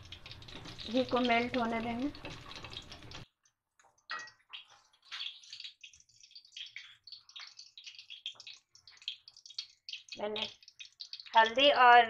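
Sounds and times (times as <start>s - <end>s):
crackles and pops: 0.0s - 11.8s
ghee sizzling faintly: 0.0s - 12.0s.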